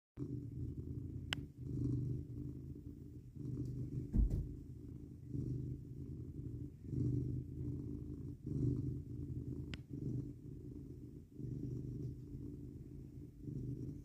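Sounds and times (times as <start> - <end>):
cat purring: 0.2 - 14.0.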